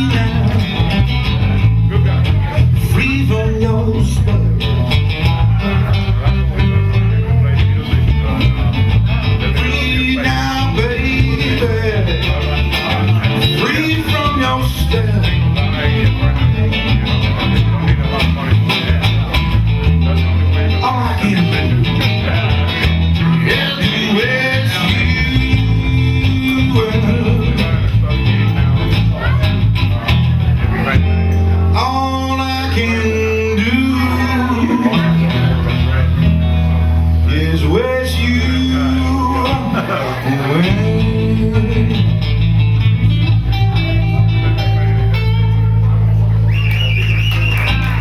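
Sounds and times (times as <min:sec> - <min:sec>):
bass line: 0:00.0 - 0:48.0
blues guitar: 0:00.0 - 0:48.0.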